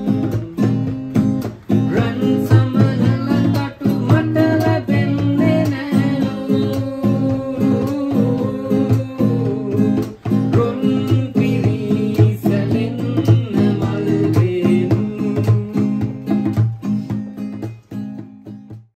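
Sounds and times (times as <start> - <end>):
acoustic guitar music: 0.0 - 18.9.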